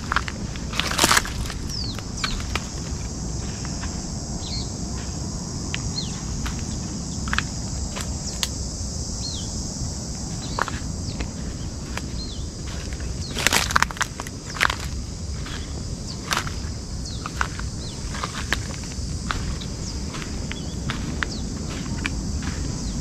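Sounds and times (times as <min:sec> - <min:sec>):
footsteps on ground: 0:00.0 - 0:08.8, 0:09.6 - 0:23.0
high insect drone: 0:00.0 - 0:23.0.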